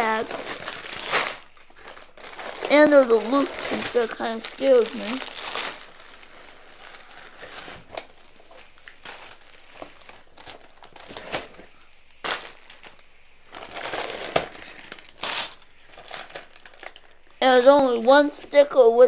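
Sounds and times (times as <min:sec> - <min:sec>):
plastic bags crinkling: 0:00.0 - 0:18.6.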